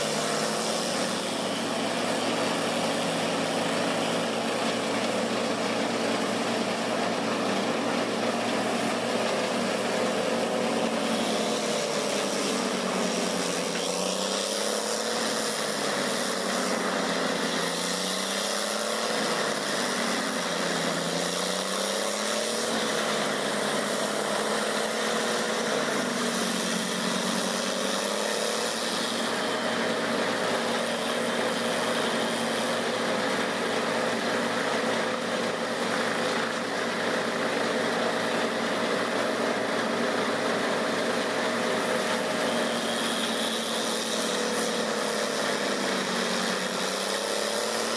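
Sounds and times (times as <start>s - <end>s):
wood grinder engine running: 0.0s - 47.9s.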